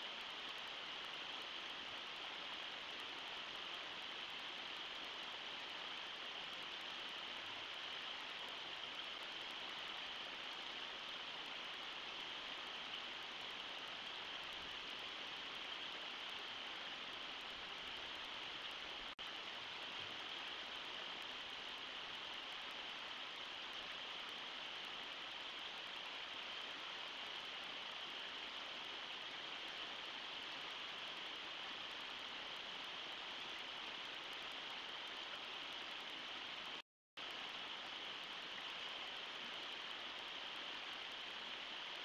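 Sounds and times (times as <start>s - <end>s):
river water through rapids: 0.0s - 42.0s.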